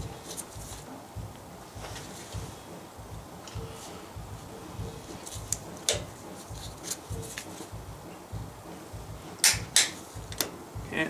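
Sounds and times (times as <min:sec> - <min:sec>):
low handling rumble: 0:00.0 - 0:11.0.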